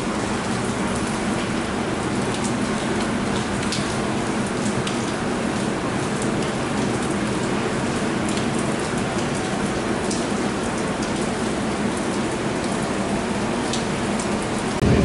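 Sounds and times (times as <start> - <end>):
raindrop ticks: 0.0 - 12.9, 13.6 - 14.8
steady rain: 0.0 - 15.0.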